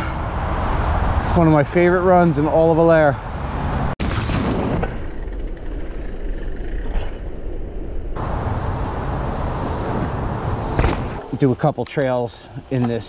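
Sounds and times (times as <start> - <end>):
mountain bike tyre noise: 0.0 - 13.0.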